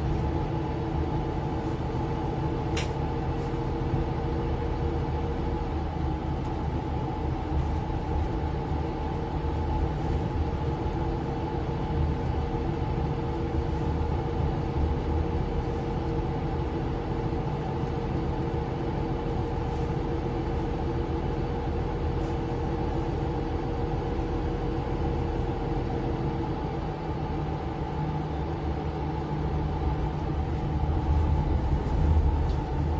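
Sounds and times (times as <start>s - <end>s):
bus engine drone: 0.0s - 32.9s
road rumble: 0.0s - 32.9s.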